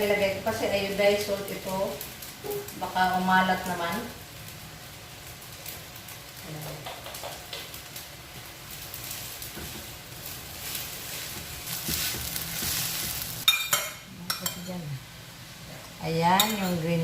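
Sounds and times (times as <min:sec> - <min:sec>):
rice sizzling in a pan: 0:00.0 - 0:17.0.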